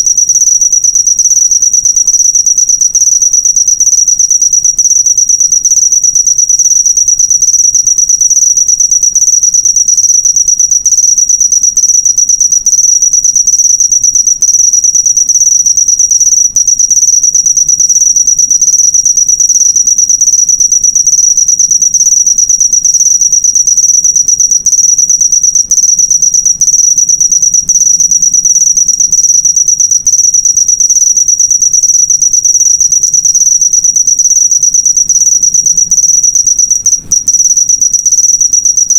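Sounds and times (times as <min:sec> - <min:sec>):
cricket chirping trill: 0:00.0 - 0:38.9.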